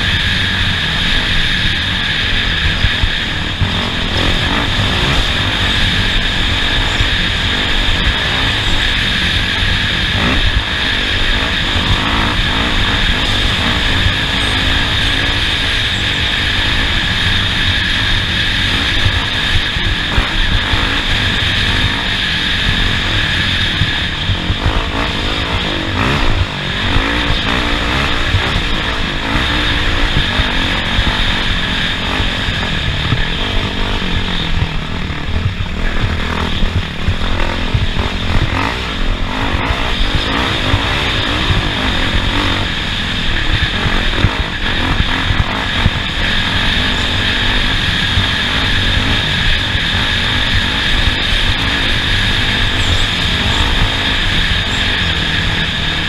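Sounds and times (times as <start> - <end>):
race vehicle engine under load: 0.0 - 56.0
vehicle rattling over rough track: 0.0 - 56.0.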